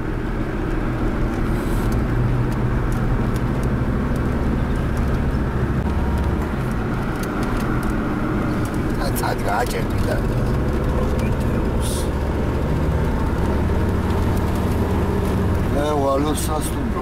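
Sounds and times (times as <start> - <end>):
car engine and tyre hum: 0.0 - 17.0.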